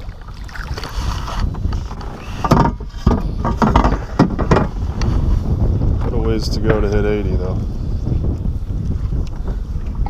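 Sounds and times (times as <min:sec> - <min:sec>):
wind rumbling on microphone: 0:00.0 - 0:10.0
knocks and clatter on kayak: 0:00.1 - 0:07.5, 0:08.2 - 0:10.0.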